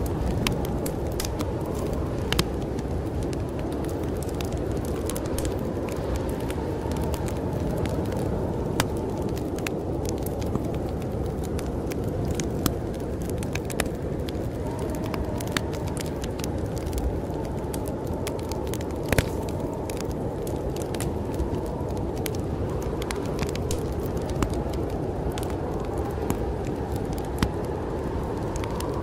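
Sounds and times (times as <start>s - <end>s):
snowstorm wind: 0.0s - 29.0s
wood fire crackling and popping: 0.0s - 29.0s.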